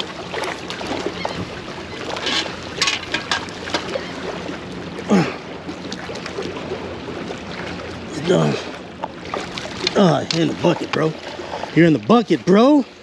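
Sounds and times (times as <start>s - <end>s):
water on shore: 0.0s - 13.0s
wind: 0.0s - 13.0s.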